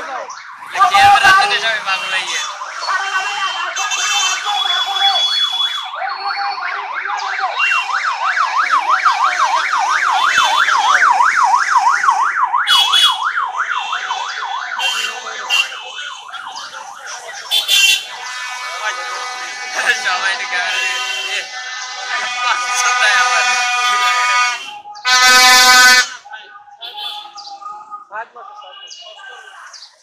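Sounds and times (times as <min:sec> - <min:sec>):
electronic siren yelping: 0:00.0 - 0:26.2.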